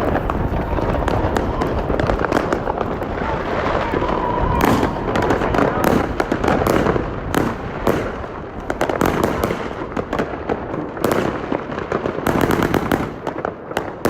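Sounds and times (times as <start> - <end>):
fireworks rapid bangs and crackling: 0.0 - 14.0.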